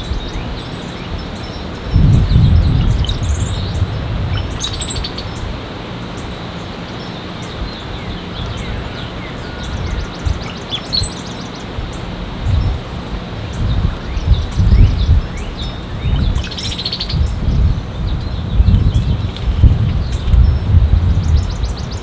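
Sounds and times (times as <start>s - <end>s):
wind buffeting microphone: 0.0s - 6.0s, 7.5s - 22.0s
small birds chirping: 0.0s - 22.0s.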